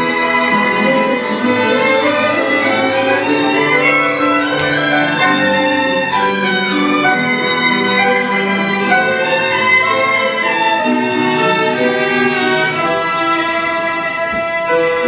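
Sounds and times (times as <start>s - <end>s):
sustained string accompaniment: 0.0s - 15.0s
violin melody: 0.0s - 15.0s.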